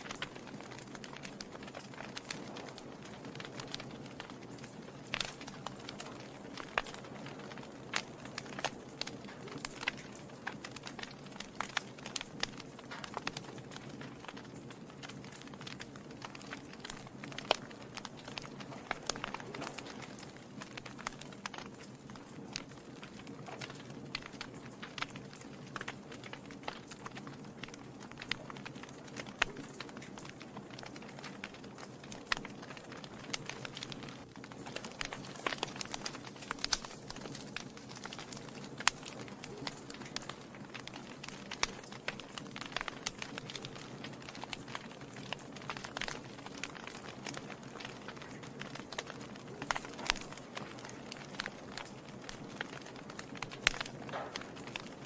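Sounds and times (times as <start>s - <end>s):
logs crackling in a fireplace: 0.0s - 55.0s
sharp pops and snaps: 0.0s - 55.0s
steady background hiss: 0.0s - 55.0s.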